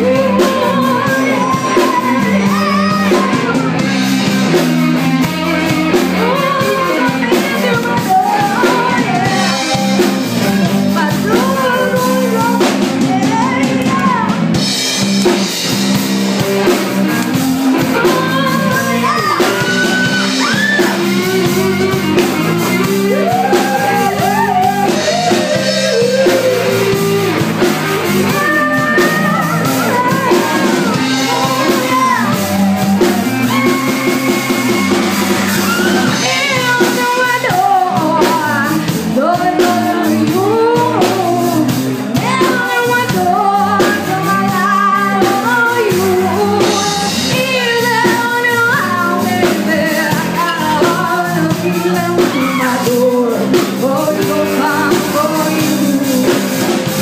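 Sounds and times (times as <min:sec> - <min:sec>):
woman singing into microphone: 0:00.0 - 0:14.6, 0:17.7 - 0:34.2, 0:35.6 - 0:57.0
blues-rock band playing: 0:00.0 - 0:57.0.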